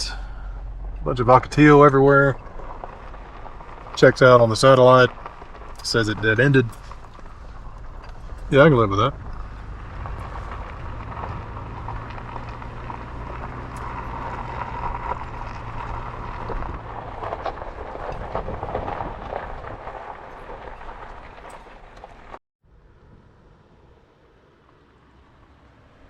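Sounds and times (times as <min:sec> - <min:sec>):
tyres crunching over gravel: 0:00.0 - 0:22.4
low engine hum: 0:00.0 - 0:26.0.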